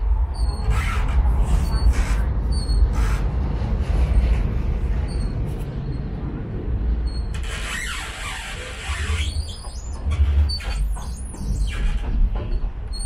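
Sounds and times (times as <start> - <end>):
tram wheels rumbling: 0.0 - 13.0.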